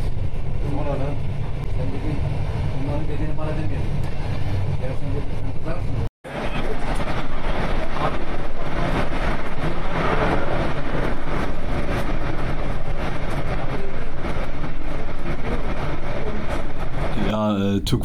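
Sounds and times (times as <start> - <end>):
passenger train running: 0.0 - 18.0.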